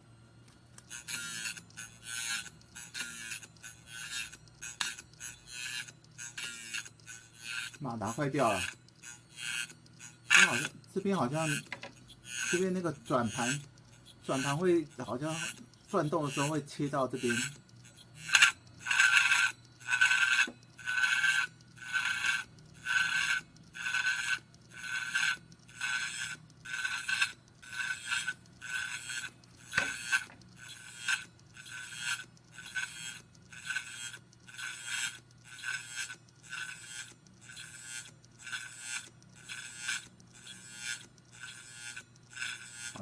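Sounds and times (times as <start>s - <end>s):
hard drive scraping: 0.5s - 43.0s.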